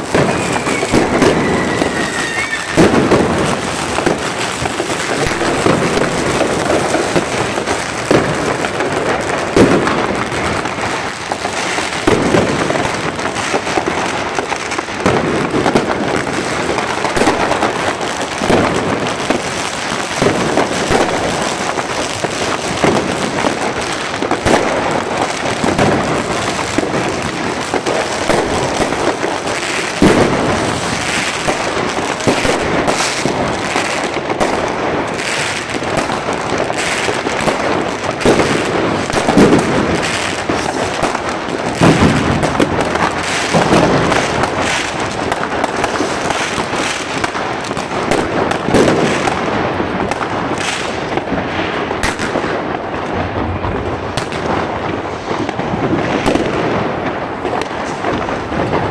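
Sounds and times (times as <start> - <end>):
fireworks crackling and popping: 0.0 - 58.9
loud firework bangs: 0.0 - 58.9.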